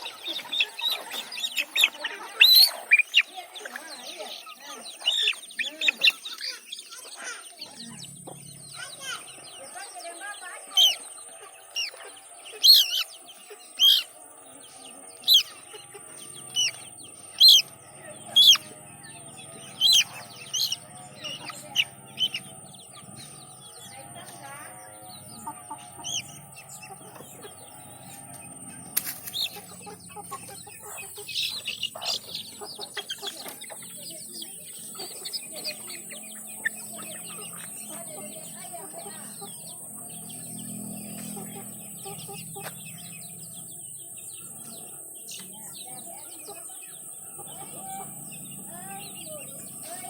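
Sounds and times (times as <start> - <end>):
chickens calling: 0.0 - 50.0
chickens clucking: 0.0 - 50.0.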